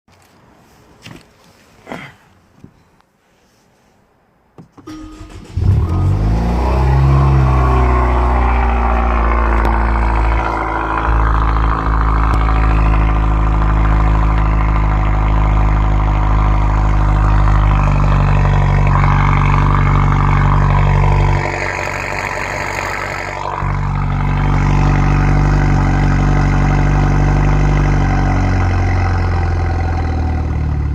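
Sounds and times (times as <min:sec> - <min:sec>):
car engine fast idle: 0:04.9 - 0:30.9.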